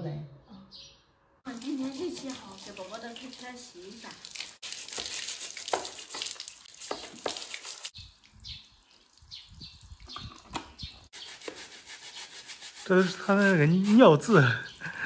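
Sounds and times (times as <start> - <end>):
scrubbing strokes: 1.5 - 15.0
spraying water: 1.5 - 15.0.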